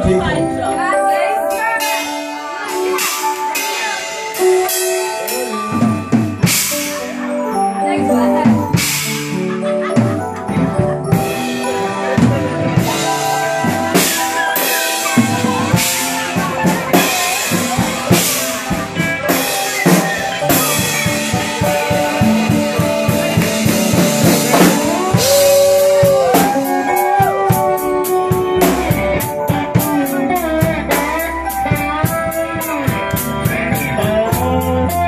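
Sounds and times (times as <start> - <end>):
held notes bending in pitch: 0.0 - 34.8
live rock band playing: 0.0 - 35.0
drum and cymbal hits: 1.8 - 7.3, 8.5 - 10.2, 11.1 - 34.6.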